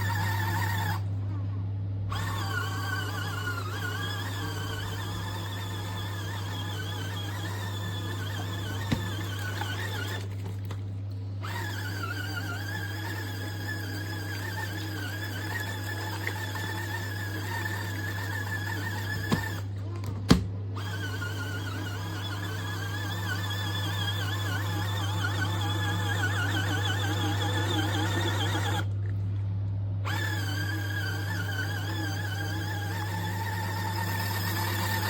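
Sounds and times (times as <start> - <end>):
washing machine motor whining: 0.0 - 35.0.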